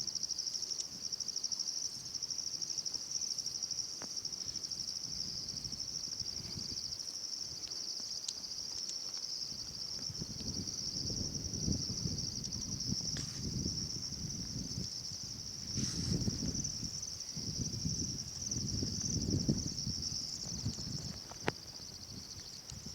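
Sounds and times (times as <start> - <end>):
crickets trilling: 0.0 - 22.9.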